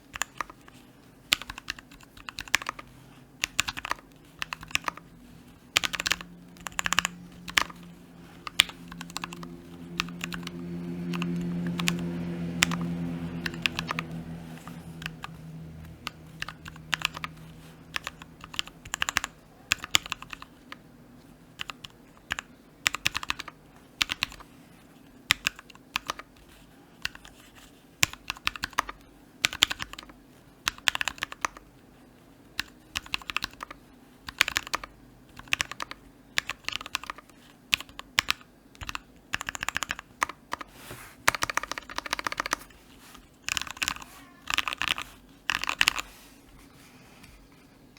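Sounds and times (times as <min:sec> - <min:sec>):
mechanical keyboard typing: 0:00.0 - 0:20.8, 0:21.5 - 0:24.5, 0:25.3 - 0:27.4, 0:28.0 - 0:31.7, 0:32.6 - 0:46.1.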